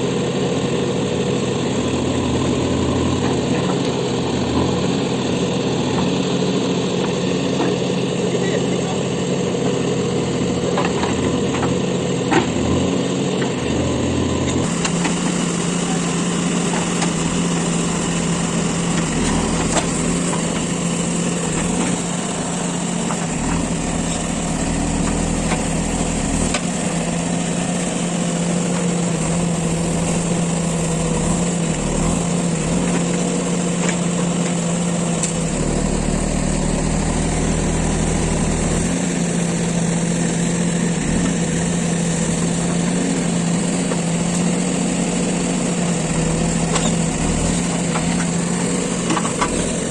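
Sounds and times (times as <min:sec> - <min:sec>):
backhoe diesel engine running: 0:00.0 - 0:49.9.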